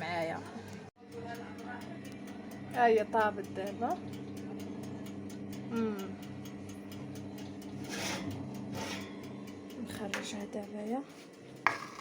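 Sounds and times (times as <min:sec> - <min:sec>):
oven humming: 0:00.0 - 0:12.0.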